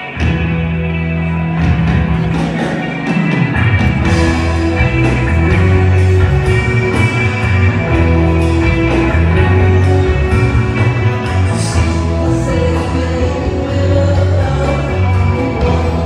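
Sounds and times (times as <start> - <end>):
drums: 0.0 - 16.0
electric bass low notes: 0.0 - 16.0
electric guitar: 0.0 - 16.0.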